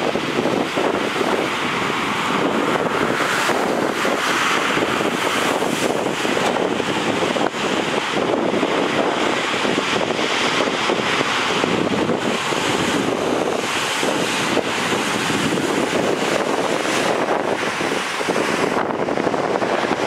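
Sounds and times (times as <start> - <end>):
surf breaking against sea wall: 0.0 - 20.0
wind buffeting microphone: 0.0 - 20.0.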